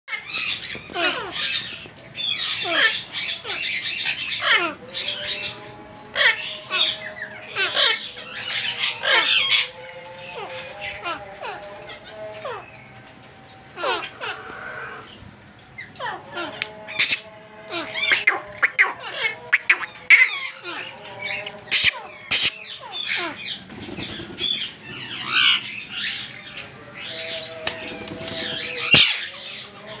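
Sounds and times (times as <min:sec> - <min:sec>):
parakeets squawking: 0:00.1 - 0:13.0, 0:13.7 - 0:30.0.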